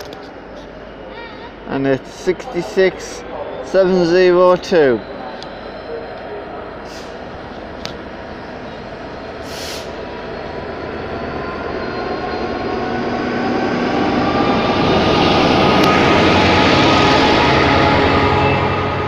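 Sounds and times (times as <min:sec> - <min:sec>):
diesel locomotive engine passing: 0:00.0 - 0:19.0.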